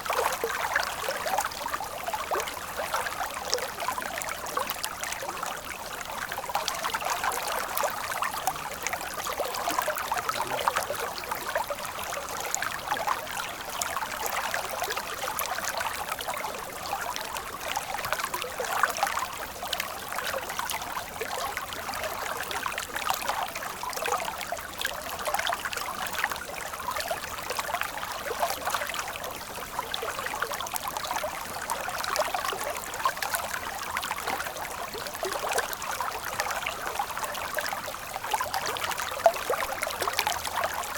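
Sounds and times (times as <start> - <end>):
stream water flowing and splashing: 0.0 - 40.9.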